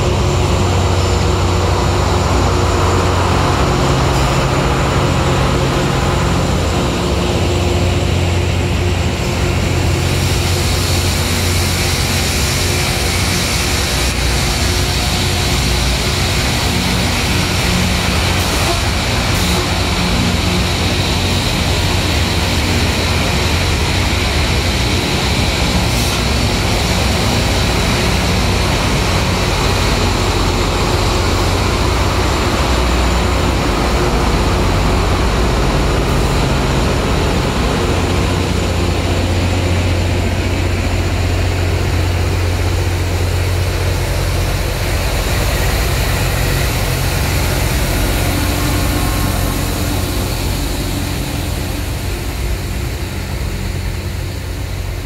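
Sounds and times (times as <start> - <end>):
diesel engine drone: 0.0 - 55.0
grinding stones roaring on rail: 0.0 - 55.0.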